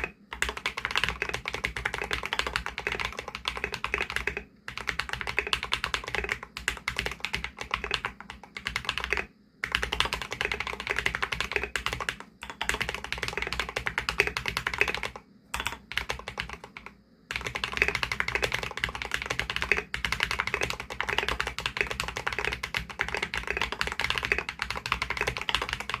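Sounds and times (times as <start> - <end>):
mechanical keyboard typing: 0.0 - 26.0.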